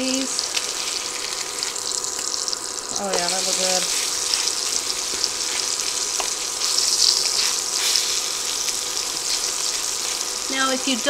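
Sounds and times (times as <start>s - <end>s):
meat searing in hot oil: 0.0s - 11.0s.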